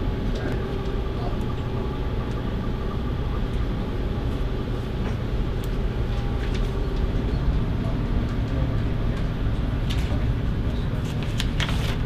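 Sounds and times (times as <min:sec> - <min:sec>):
ship machinery rumble and hum: 0:00.0 - 0:12.0.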